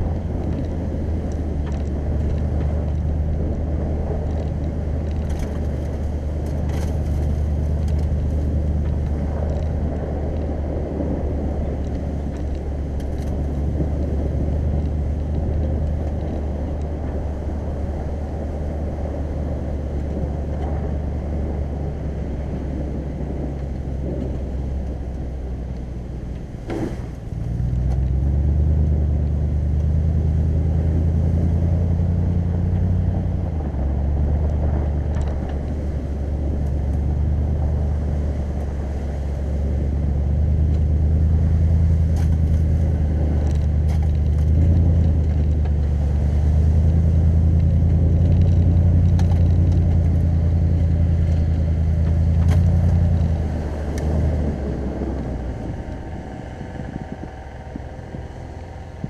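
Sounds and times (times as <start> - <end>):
car engine rumble: 0.0 - 59.0
tyres on packed snow: 0.0 - 59.0.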